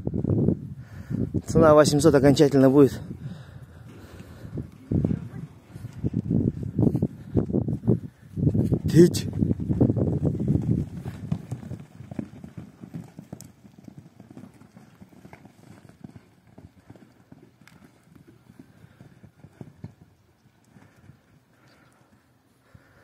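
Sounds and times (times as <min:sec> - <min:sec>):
horse hooves on muddy ground: 0:03.8 - 0:22.3.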